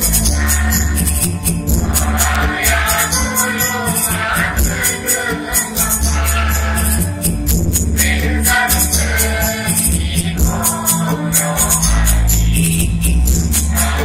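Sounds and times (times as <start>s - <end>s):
band accompaniment with deep bass: 0.0s - 14.0s
high percussion beat: 0.0s - 14.0s
large chorus singing: 0.0s - 14.0s.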